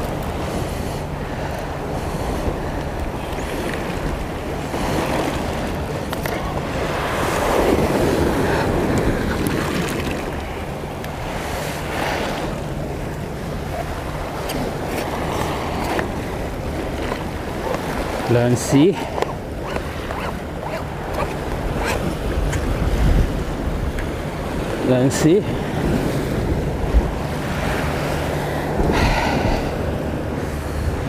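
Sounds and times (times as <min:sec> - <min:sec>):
sea waves washing against rocks: 0:00.0 - 0:31.0
wind buffeting microphone: 0:00.0 - 0:31.0.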